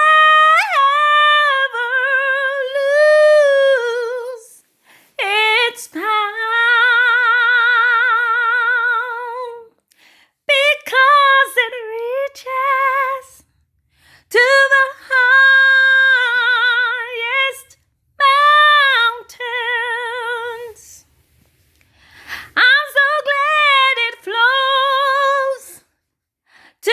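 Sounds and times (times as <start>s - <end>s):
woman singing unaccompanied: 0.0s - 4.6s, 5.2s - 9.8s, 10.5s - 13.5s, 14.3s - 21.0s, 22.5s - 25.9s.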